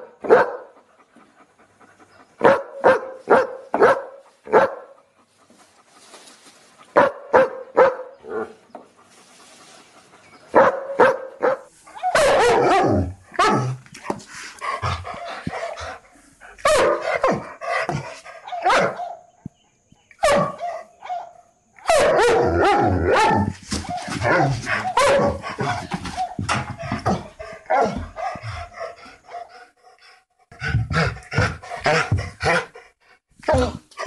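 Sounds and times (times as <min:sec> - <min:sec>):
dogs barking angrily: 0:00.0 - 0:05.2, 0:06.9 - 0:08.7, 0:10.4 - 0:19.3, 0:20.1 - 0:29.8, 0:30.5 - 0:34.0.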